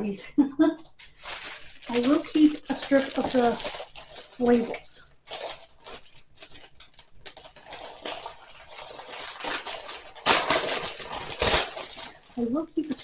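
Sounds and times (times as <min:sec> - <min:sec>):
paper rustling: 0:01.0 - 0:13.0.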